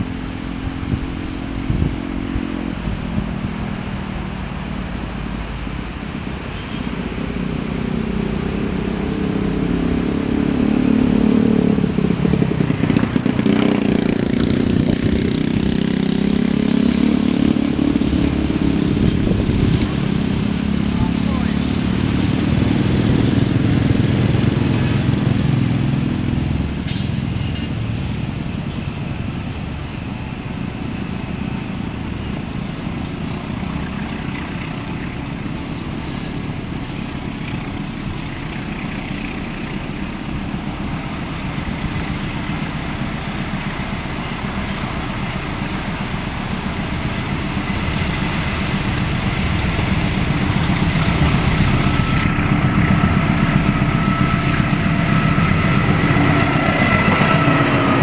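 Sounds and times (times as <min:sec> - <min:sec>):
diesel locomotive engine: 0:00.0 - 0:58.0
low vehicle engine drone: 0:00.0 - 0:58.0.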